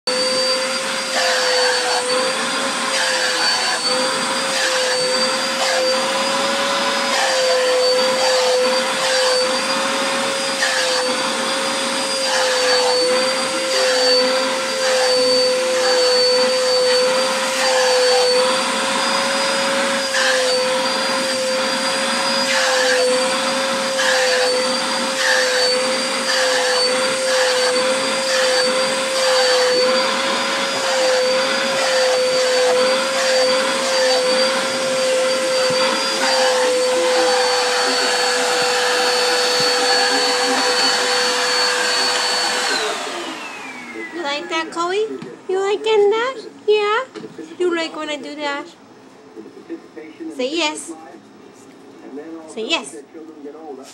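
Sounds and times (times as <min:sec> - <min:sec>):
vacuum cleaner running: 0:00.0 - 0:51.1.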